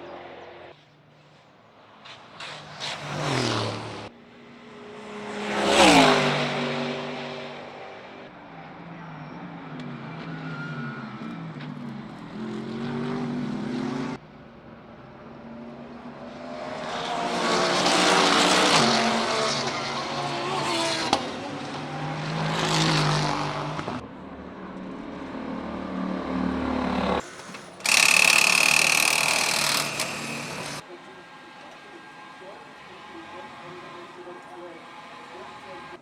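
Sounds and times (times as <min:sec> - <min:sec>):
race cars passing at speed: 0:00.0 - 0:36.0.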